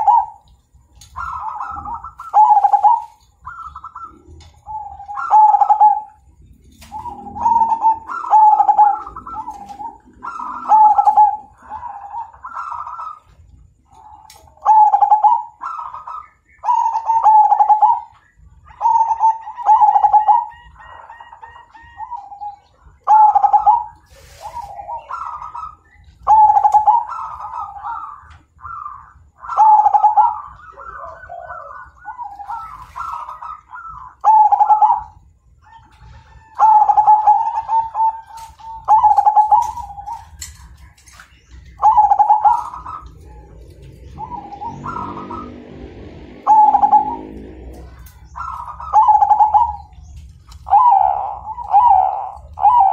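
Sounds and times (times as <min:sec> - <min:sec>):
dove cooing loudly: 0:00.0 - 0:52.9.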